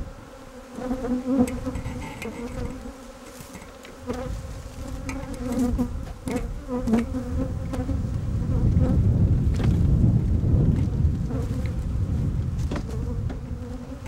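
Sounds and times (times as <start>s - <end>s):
honeybees buzzing: 0.0s - 9.1s, 10.9s - 14.0s.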